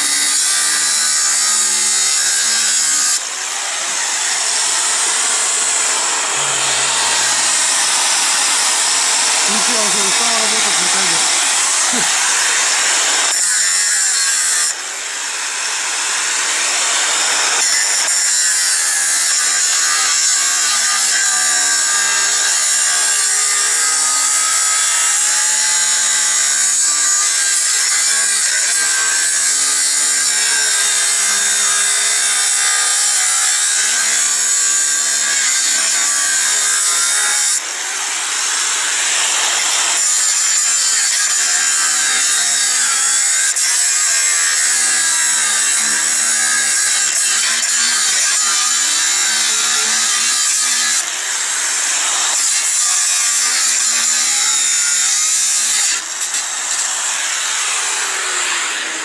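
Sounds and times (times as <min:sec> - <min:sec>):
angle grinder cutting steel: 0:00.0 - 0:59.0.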